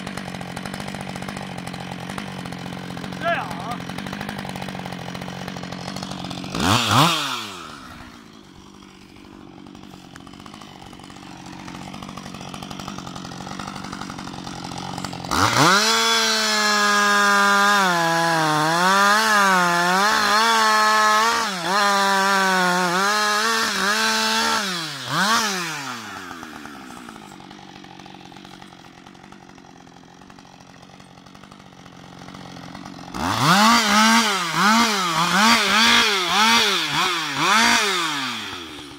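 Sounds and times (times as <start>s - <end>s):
chainsaw cutting through log: 0.0s - 38.9s
chainsaw idling: 0.0s - 38.9s
chainsaw revving: 0.0s - 38.9s.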